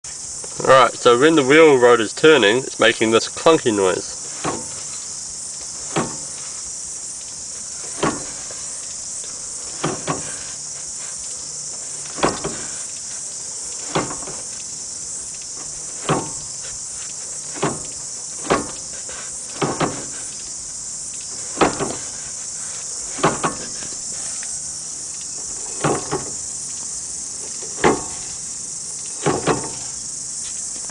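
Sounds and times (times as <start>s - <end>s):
drive shaft clunking: 0.2s - 30.9s.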